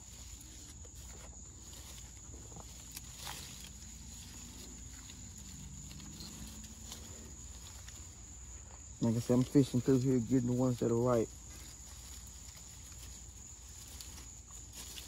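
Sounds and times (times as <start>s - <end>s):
crickets trilling: 0.0s - 15.0s
leaves rustling and snapping: 0.0s - 15.0s.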